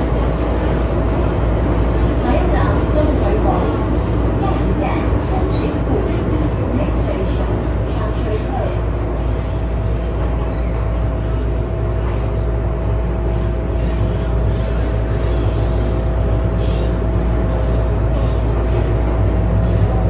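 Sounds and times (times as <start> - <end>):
constant hum: 0.0 - 20.0
train wheels rumbling on rail: 0.0 - 20.0.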